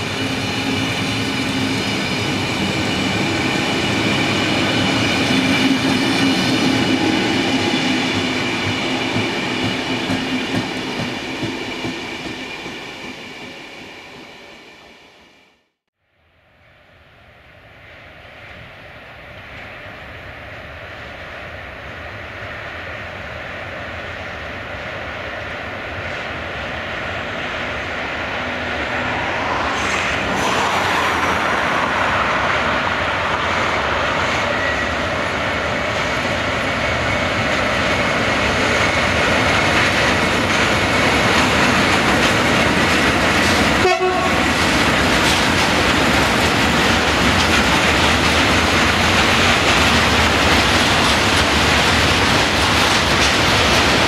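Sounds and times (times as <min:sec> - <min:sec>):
freight train passing: 0:00.0 - 0:54.0.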